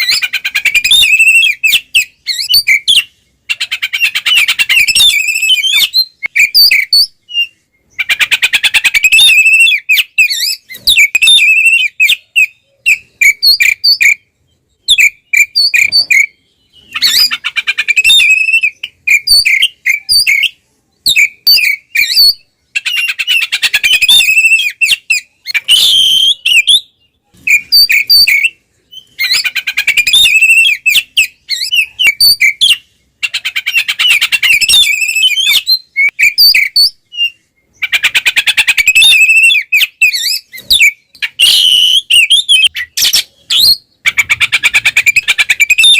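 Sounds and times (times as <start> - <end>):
bird singing harsh rattles and whistles: 0.0 - 45.9.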